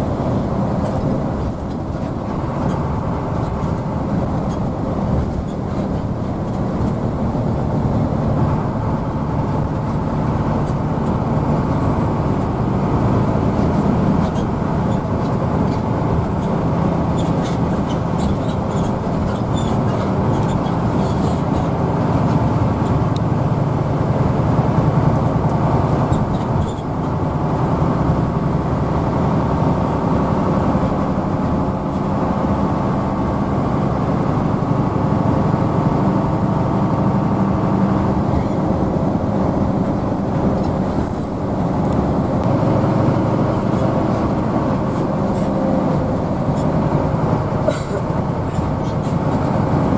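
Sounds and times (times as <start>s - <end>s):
bus engine hum: 0.0s - 49.9s
road and tyre noise: 0.0s - 49.9s.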